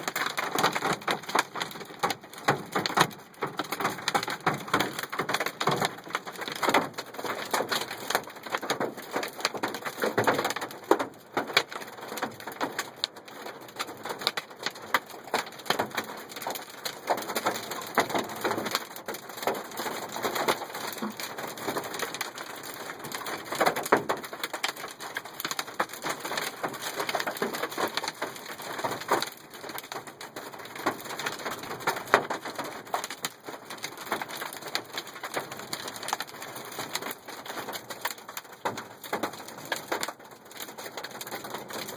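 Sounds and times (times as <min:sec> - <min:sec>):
hailstones pelting a truck: 0:00.0 - 0:41.9.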